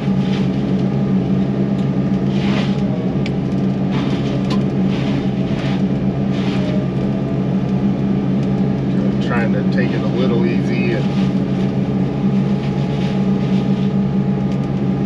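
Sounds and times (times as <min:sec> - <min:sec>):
mulching head grinding brush: 0:00.0 - 0:01.1, 0:02.1 - 0:07.6, 0:08.4 - 0:14.0
excavator diesel engine running: 0:00.0 - 0:15.0.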